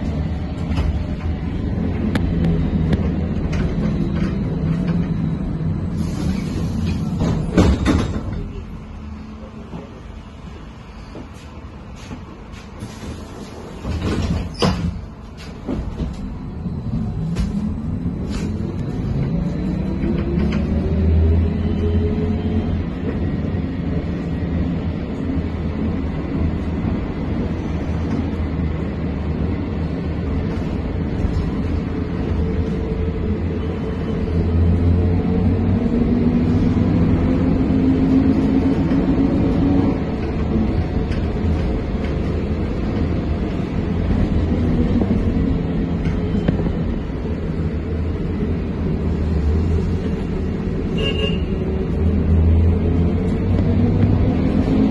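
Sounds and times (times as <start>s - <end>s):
trolleybus running gear rumble: 0.0s - 54.9s.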